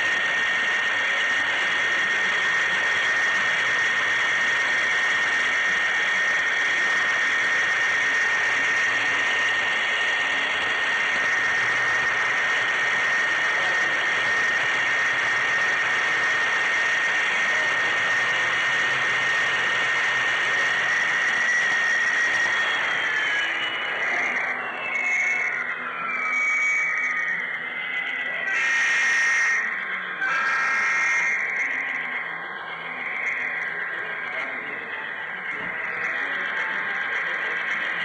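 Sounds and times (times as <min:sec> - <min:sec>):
model train motor whining: 0:00.0 - 0:38.0.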